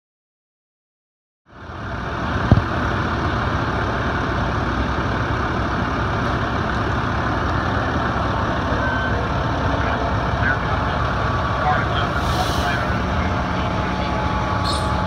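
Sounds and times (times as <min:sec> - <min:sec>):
diesel engine idling: 0:01.5 - 0:15.0.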